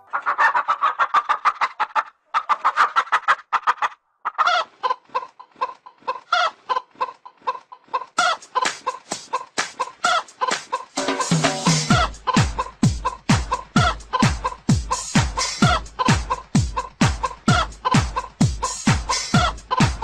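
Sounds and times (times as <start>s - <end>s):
chickens clucking rapidly: 0.0s - 20.0s.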